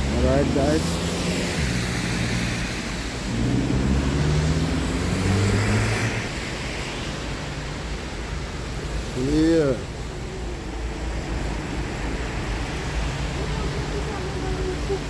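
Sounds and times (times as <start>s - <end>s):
heavy rain hiss: 0.0s - 15.0s
traffic on wet road: 0.0s - 15.0s
vehicle engine humming: 0.0s - 15.0s.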